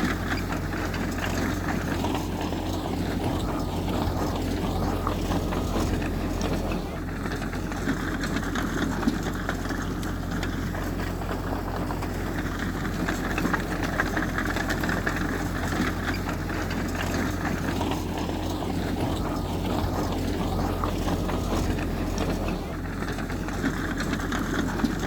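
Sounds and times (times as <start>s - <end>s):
heavy diesel engine running: 0.0s - 25.0s
light clatter: 0.0s - 25.0s.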